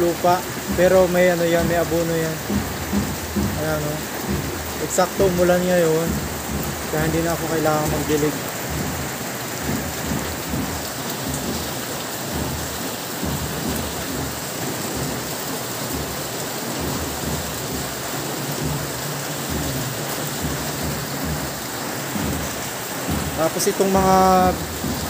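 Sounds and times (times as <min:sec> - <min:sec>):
steady rain on plants: 0:00.0 - 0:25.0.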